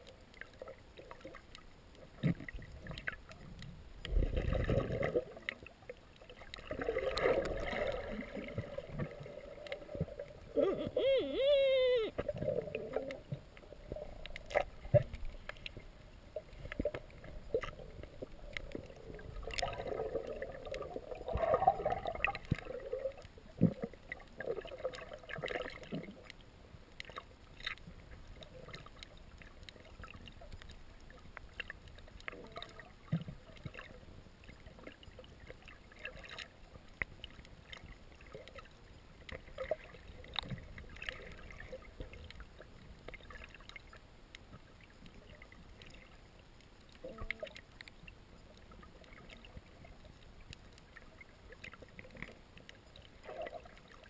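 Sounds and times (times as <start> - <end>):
water gurgling underwater: 0.0 - 26.4, 27.0 - 44.0, 44.8 - 46.2, 46.9 - 54.0.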